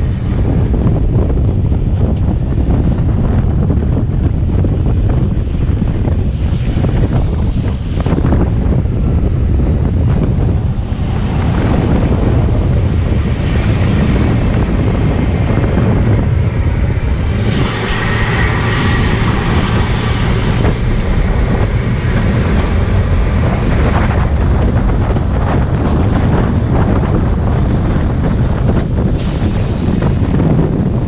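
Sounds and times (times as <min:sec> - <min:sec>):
garbage truck engine rumble: 0:00.0 - 0:31.0
road and wind noise: 0:00.0 - 0:31.0.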